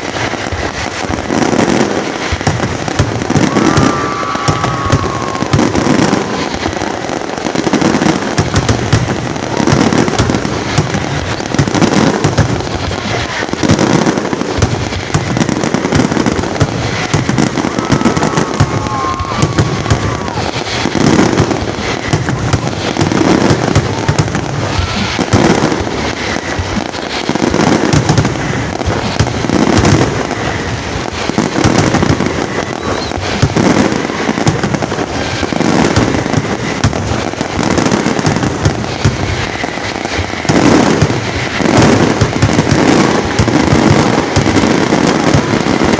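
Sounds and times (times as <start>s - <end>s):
dense fireworks crackling: 0.0s - 45.9s
firework shell bursts booming: 0.0s - 45.9s
short firework whistles: 0.0s - 45.9s.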